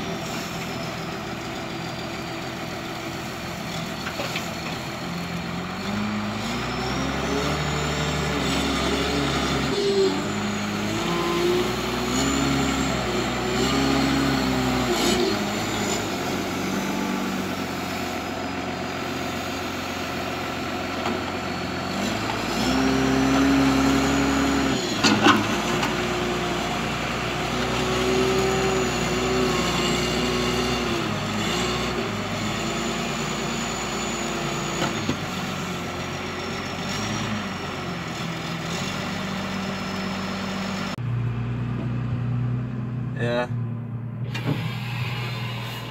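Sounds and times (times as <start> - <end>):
diesel engine revving: 0.0 - 45.9.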